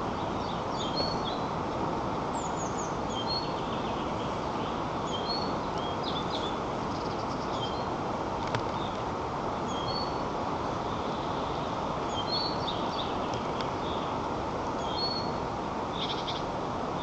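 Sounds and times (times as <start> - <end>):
small birds chirping: 0.0 - 1.6, 2.3 - 17.0
forest ambience: 0.0 - 17.0.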